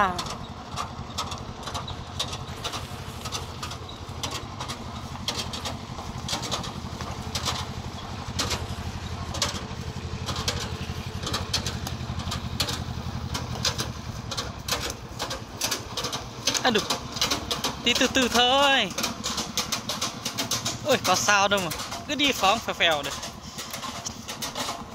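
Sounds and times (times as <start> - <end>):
diesel engine chugging: 0.0 - 24.9
knocks and rattles: 0.0 - 24.9.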